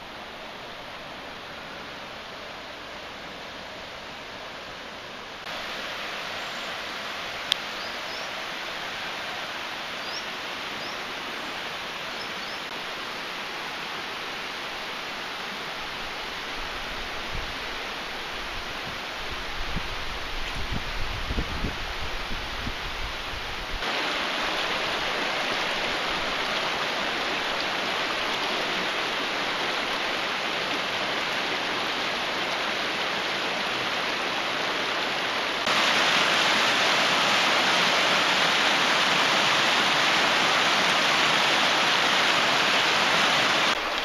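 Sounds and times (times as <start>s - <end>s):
river rushing over stones: 0.0s - 44.0s.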